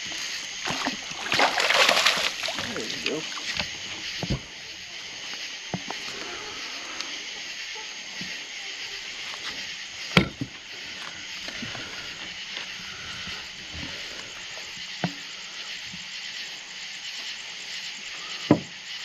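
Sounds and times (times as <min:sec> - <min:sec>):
night insects chirping: 0:00.0 - 0:19.0.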